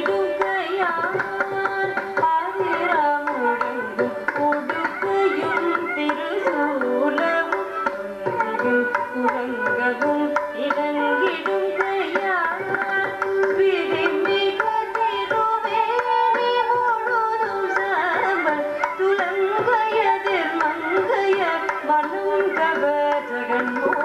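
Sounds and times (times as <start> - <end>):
violin: 0.0 - 24.0
woman singing: 0.0 - 24.0.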